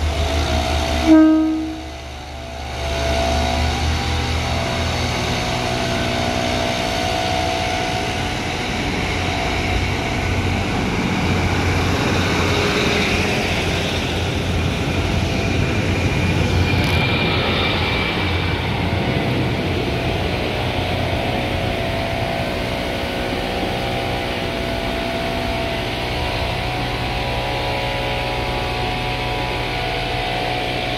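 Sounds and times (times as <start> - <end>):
diesel train engines droning: 0.0 - 30.9.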